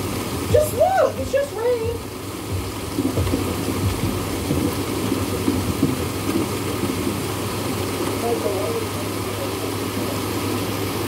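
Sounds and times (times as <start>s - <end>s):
heavy rain: 0.0s - 11.0s
low constant hum: 0.0s - 11.0s.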